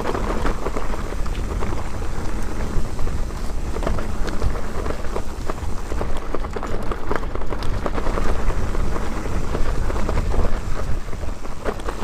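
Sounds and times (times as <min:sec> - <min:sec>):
bike rattling and knocking: 0:00.0 - 0:12.0
tyres on dirt: 0:00.0 - 0:12.0
wind rumble on microphone: 0:00.0 - 0:12.0.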